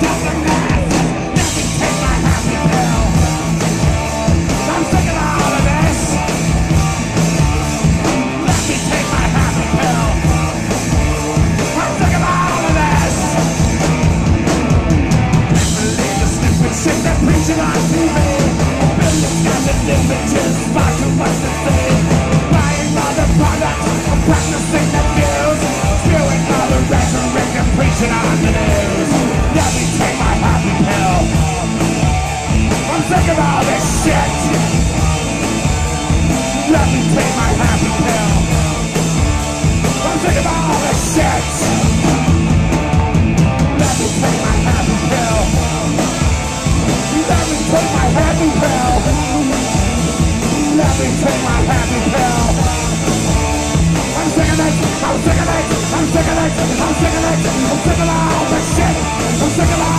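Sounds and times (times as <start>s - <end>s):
person singing raw shouted vocals: 0.0s - 3.6s, 4.6s - 6.5s, 8.4s - 13.8s, 15.5s - 31.8s, 32.7s - 35.4s, 36.5s - 38.9s, 39.9s - 42.5s, 43.7s - 46.2s, 46.8s - 53.0s, 54.0s - 59.9s
live punk rock band: 0.0s - 59.9s.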